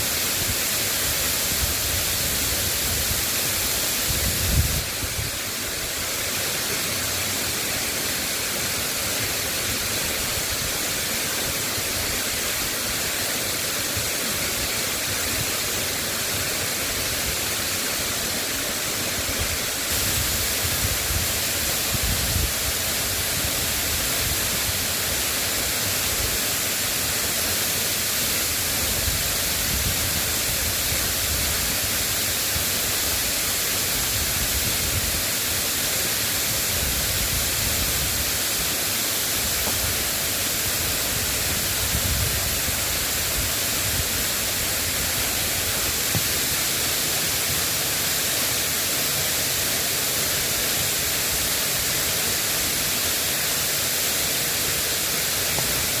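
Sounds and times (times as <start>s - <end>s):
drizzling rain hiss: 0.0s - 56.0s.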